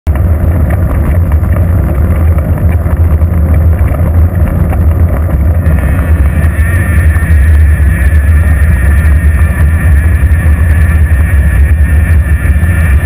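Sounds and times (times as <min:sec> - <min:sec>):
road rumble: 0:00.1 - 0:13.0
wind buffeting microphone: 0:00.1 - 0:13.0.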